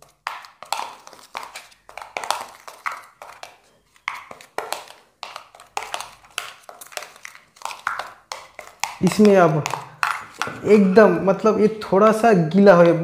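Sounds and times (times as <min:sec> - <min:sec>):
spoon scraping plastic bowl: 0:00.0 - 0:11.1.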